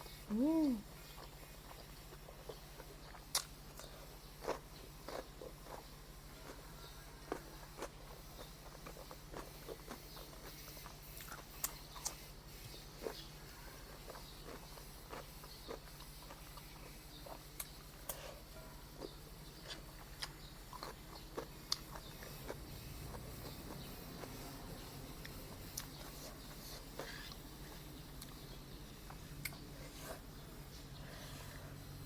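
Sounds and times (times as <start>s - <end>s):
chewing and mouth sounds: 0.0s - 32.0s
low electrical hum: 0.0s - 32.0s.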